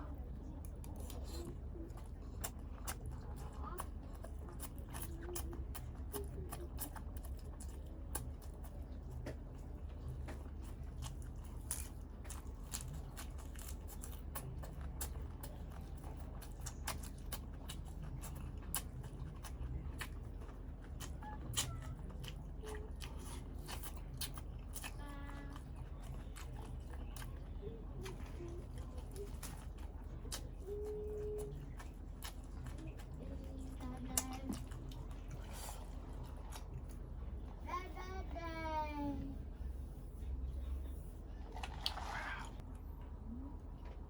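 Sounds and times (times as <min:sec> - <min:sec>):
steady low hum: 0:00.0 - 0:44.0
person chewing and crunching: 0:00.4 - 0:37.4.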